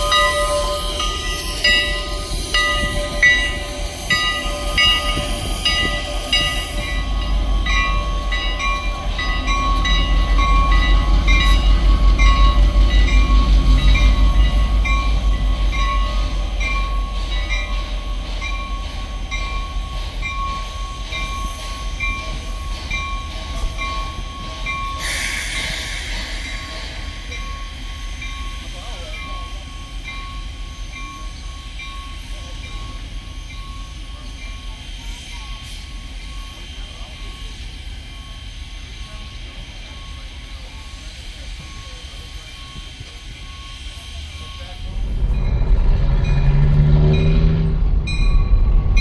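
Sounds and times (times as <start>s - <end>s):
diesel locomotive engine rumble: 0.0s - 49.0s.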